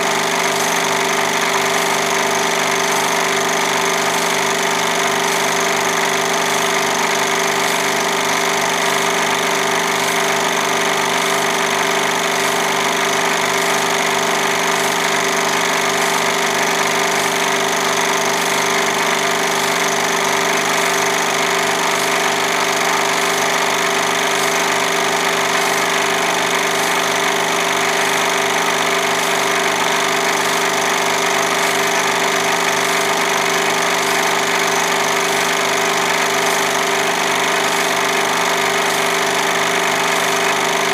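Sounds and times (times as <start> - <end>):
film projector whirring and clattering: 0.0 - 40.9.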